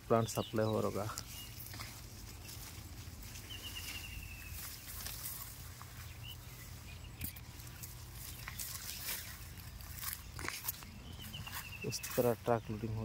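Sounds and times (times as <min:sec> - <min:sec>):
leaves rustling and clicking: 0:00.0 - 0:13.0.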